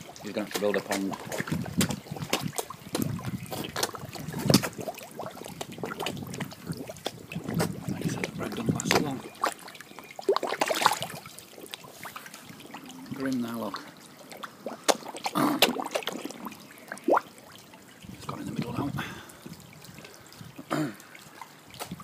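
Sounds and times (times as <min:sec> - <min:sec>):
fish slurping at surface: 0:00.0 - 0:22.0.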